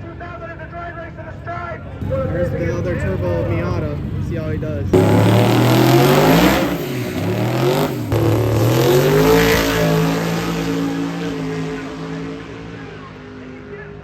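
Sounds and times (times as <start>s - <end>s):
race car engine accelerating: 2.0s - 14.0s.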